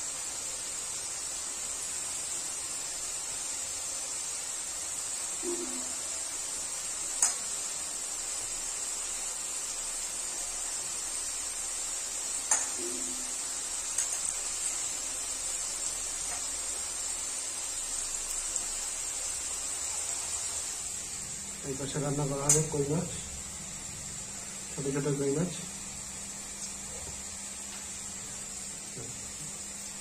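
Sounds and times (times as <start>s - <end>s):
potatoes sizzling in hot oil: 0.0s - 30.0s.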